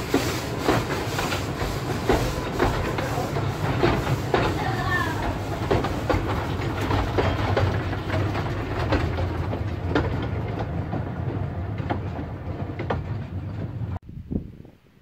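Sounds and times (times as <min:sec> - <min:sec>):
train rumbling past: 0:00.0 - 0:14.0
wheels clicking over rail joints: 0:00.0 - 0:14.0.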